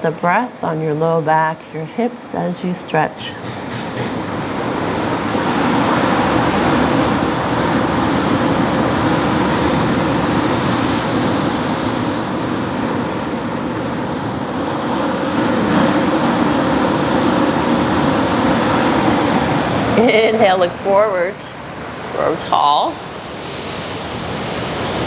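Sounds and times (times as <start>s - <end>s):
ocean surf rushing: 2.3s - 25.0s.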